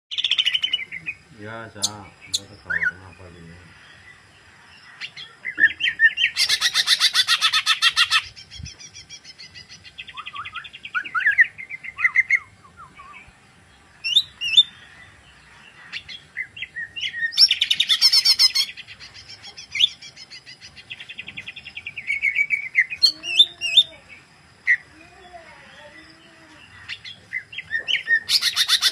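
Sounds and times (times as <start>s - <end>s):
bird rapid trill: 0.1s - 3.2s, 4.9s - 12.6s, 14.0s - 26.0s, 26.7s - 28.9s
bird singing warbled phrases: 0.1s - 28.9s.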